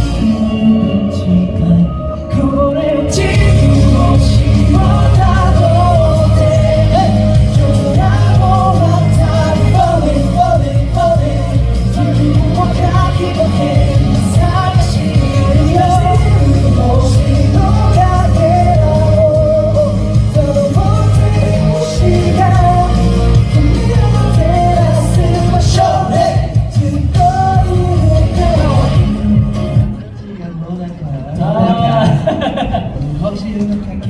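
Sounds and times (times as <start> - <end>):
pop song over sound system: 0.0 - 30.6, 31.3 - 34.0.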